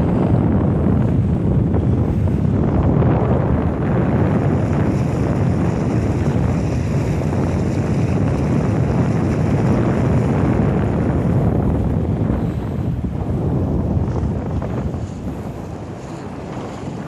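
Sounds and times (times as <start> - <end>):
water rushing along hull: 0.0 - 17.0
wind rumbling on microphone: 0.0 - 17.0.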